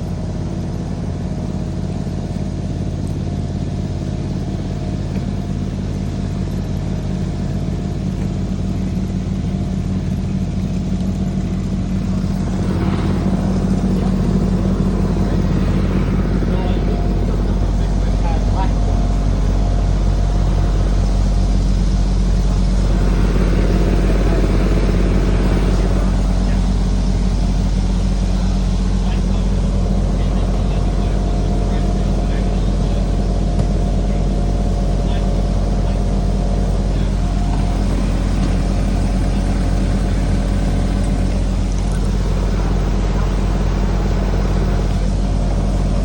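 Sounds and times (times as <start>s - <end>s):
model locomotive humming: 0.0s - 46.0s.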